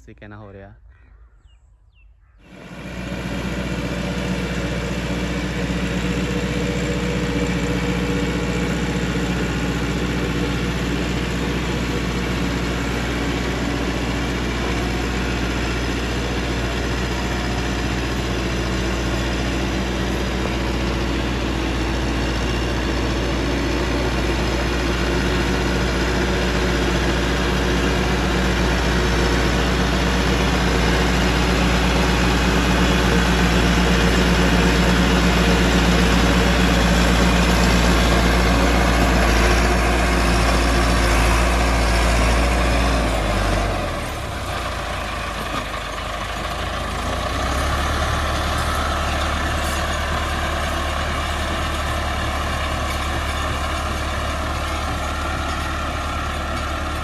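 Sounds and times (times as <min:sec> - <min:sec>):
tractor diesel engine under load: 0:02.4 - 0:57.0.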